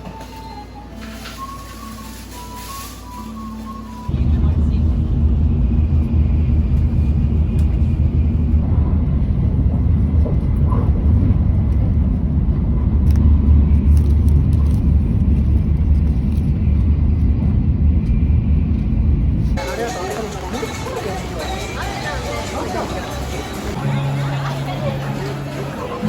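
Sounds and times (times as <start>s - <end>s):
vehicle low rumble: 1.0s - 26.0s.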